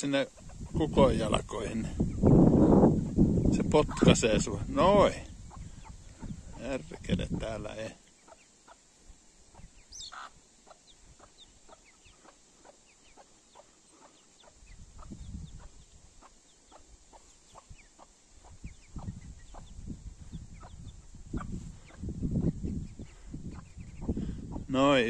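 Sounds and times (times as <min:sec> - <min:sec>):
chickens clucking: 0:00.0 - 0:25.0
chicks peeping: 0:00.0 - 0:25.0.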